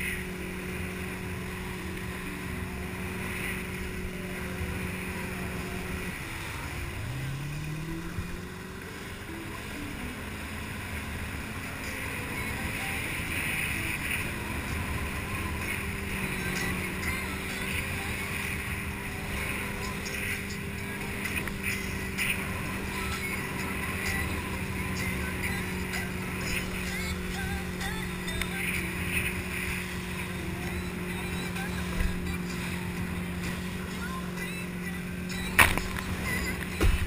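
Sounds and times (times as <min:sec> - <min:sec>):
motorboat engine running: 0:00.0 - 0:37.0
rushing water: 0:00.0 - 0:37.0
wind: 0:00.0 - 0:37.0.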